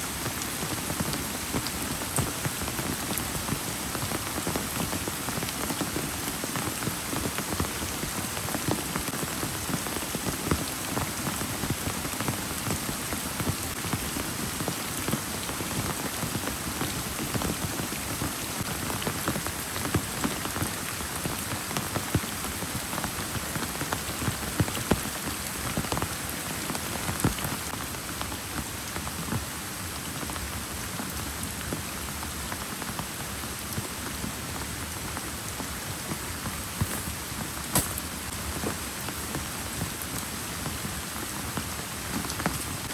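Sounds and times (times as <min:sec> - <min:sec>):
heavy rain pouring: 0:00.0 - 0:42.9
raindrops tapping a surface: 0:00.1 - 0:29.6, 0:30.2 - 0:42.9.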